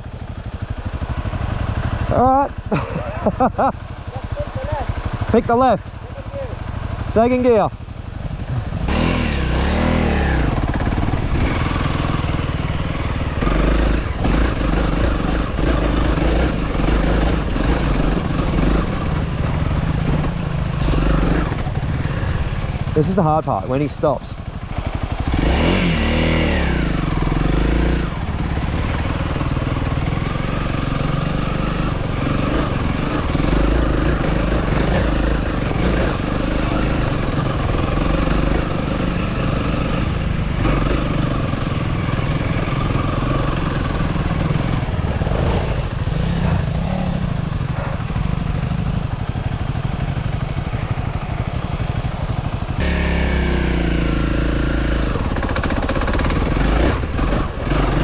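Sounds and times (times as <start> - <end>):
dirt bike engine revving: 6.4 - 58.0.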